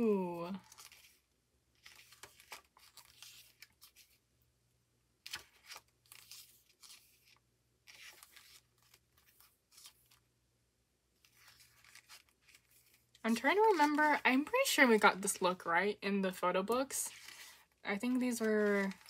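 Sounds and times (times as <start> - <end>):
paper pages turning: 0.5 - 4.2, 5.2 - 10.3, 11.2 - 15.7, 16.8 - 19.0.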